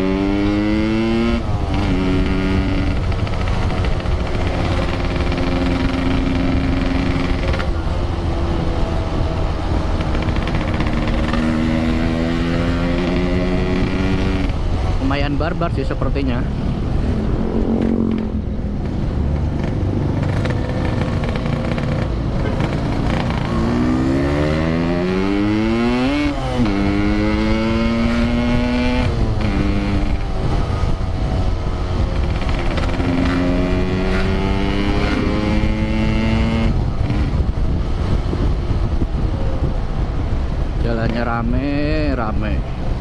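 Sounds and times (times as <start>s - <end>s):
motorcycle engine accelerating: 0.0s - 43.0s
wind and road rush: 0.0s - 43.0s.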